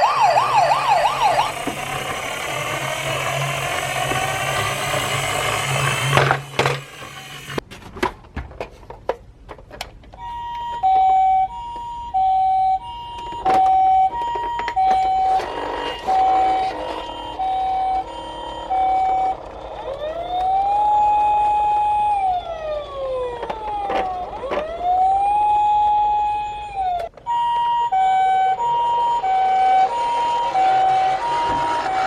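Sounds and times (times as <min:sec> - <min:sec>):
ambulance two-note siren: 0:00.0 - 0:06.2, 0:10.2 - 0:32.0
second siren sweeping: 0:00.0 - 0:06.2, 0:10.8 - 0:32.0
police siren wailing: 0:00.0 - 0:06.7, 0:10.2 - 0:32.0.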